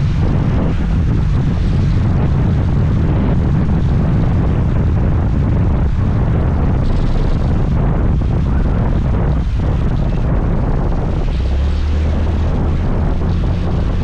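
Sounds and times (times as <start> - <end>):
road and vehicle noise: 0.0 - 14.0
wind rumble on microphone: 0.0 - 14.0.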